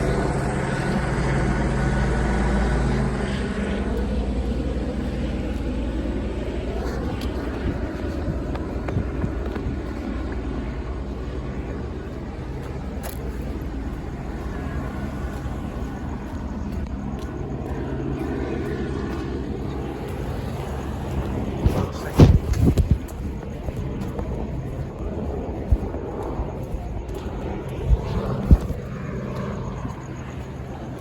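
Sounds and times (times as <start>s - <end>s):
helicopter flying overhead: 0.0s - 31.0s.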